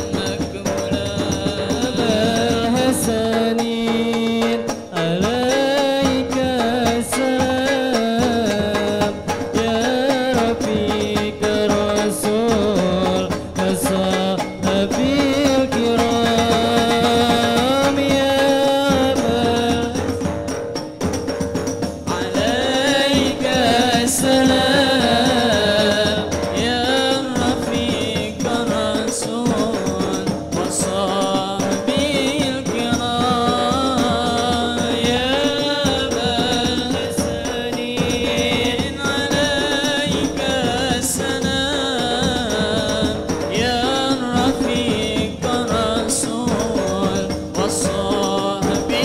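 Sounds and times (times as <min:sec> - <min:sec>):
man chanting over loudspeakers: 0:00.0 - 0:20.2, 0:22.1 - 0:49.0
man singing into a microphone: 0:00.0 - 0:20.3, 0:22.0 - 0:49.0
frame drums: 0:00.0 - 0:49.0.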